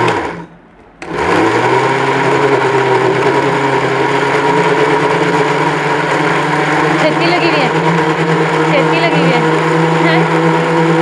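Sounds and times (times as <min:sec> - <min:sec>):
mixer grinder running: 0:00.0 - 0:11.0.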